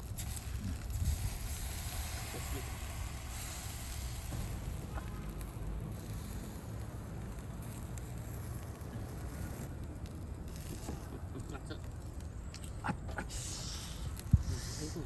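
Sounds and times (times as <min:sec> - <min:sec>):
charcoal fire crackling: 0:00.0 - 0:15.0
fire low rumble: 0:00.0 - 0:15.0.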